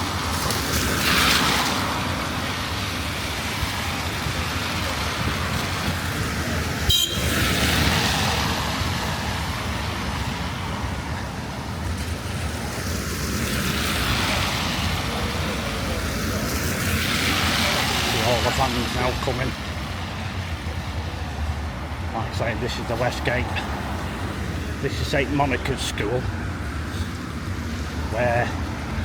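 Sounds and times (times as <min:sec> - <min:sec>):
cars swishing on wet road: 0:00.0 - 0:29.0
steady low traffic rumble: 0:00.0 - 0:29.0.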